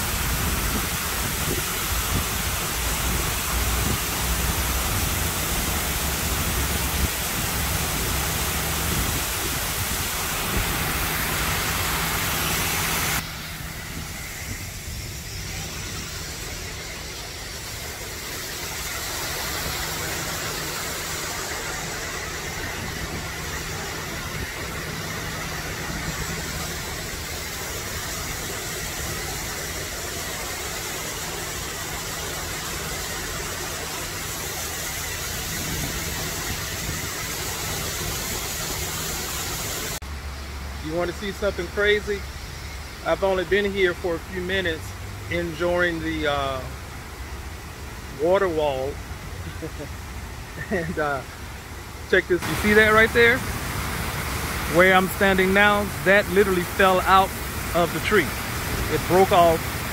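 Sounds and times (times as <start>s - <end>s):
water falling into a pool: 0.0s - 59.9s.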